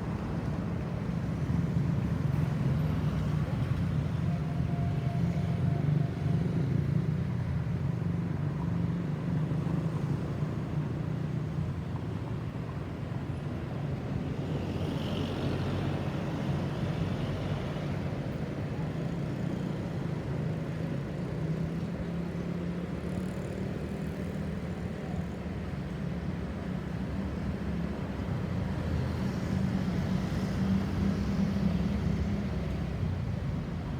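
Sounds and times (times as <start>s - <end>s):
road traffic noise: 0.0s - 33.9s.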